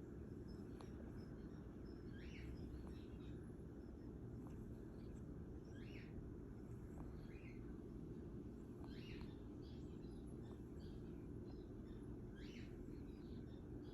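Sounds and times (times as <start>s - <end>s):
low background noise: 0.0s - 13.9s.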